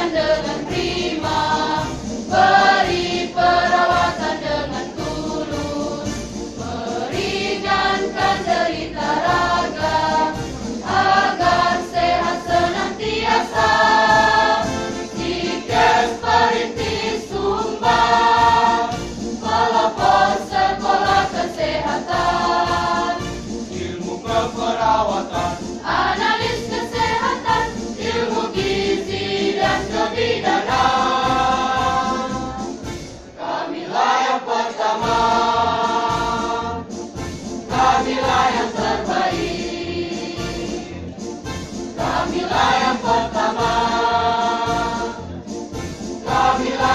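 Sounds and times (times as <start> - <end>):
women's choir singing: 0.0 - 36.9, 37.7 - 41.0, 42.0 - 45.2, 46.2 - 46.9.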